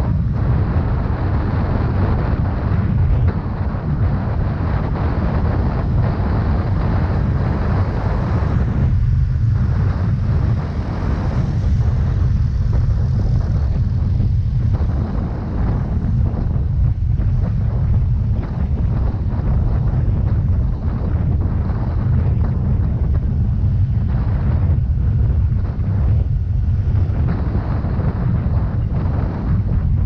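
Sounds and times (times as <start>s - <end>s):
scooter engine and road noise: 0.0s - 30.0s
wind buffeting microphone: 0.0s - 30.0s.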